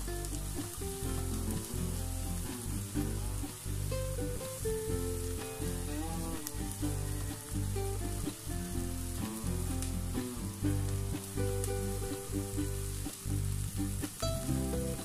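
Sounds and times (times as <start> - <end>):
background music: 0.0 - 15.0
vegetables sizzling in oil: 0.0 - 15.0.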